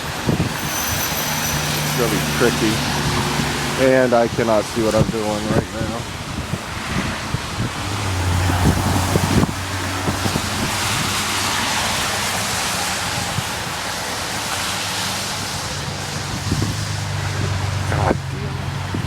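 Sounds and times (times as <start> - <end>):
tyres hissing on wet slush: 0.1 - 18.8
low engine hum: 0.6 - 19.0.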